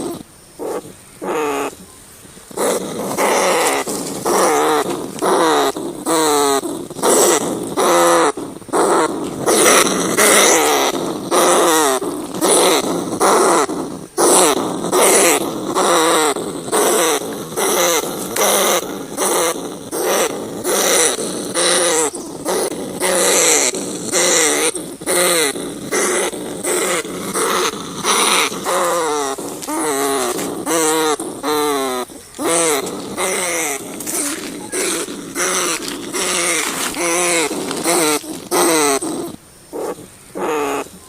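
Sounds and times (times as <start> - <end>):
rats squealing: 0.0 - 1.8, 2.5 - 41.0.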